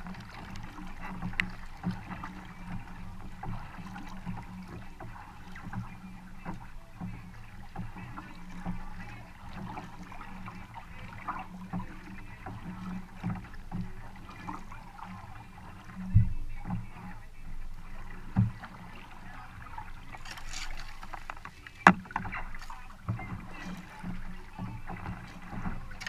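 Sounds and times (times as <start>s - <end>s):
paddle strokes through water: 0.0s - 26.0s
water dripping off paddle blades: 0.0s - 26.0s.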